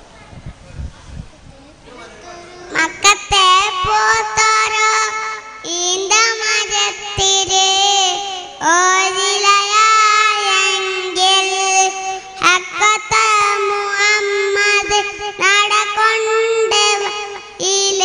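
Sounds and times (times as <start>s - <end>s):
child singing into a microphone: 1.3s - 18.0s.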